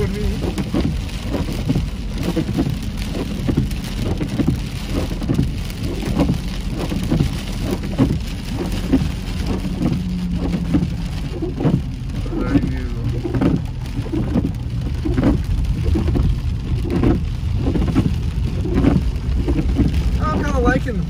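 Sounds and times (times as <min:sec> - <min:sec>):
rain pattering on car: 0:00.0 - 0:21.0
windshield wipers squeaking: 0:00.0 - 0:21.0.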